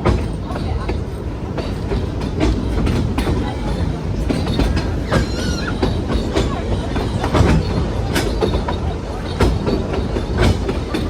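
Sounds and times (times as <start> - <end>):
train carriage rumbling on track: 0.0 - 11.0
train wheels clacking: 0.0 - 11.0.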